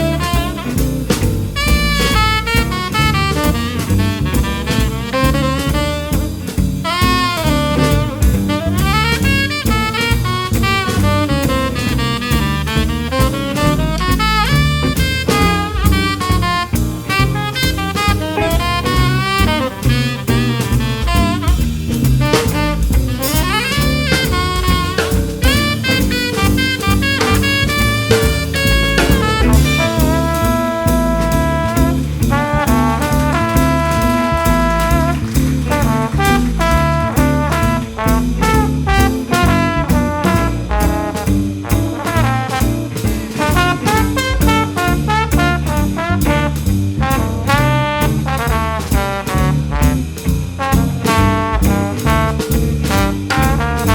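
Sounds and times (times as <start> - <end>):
double bass: 0.0 - 53.9
drums: 0.0 - 53.9
horn melody: 0.0 - 53.9
jazz band playing: 0.0 - 53.9.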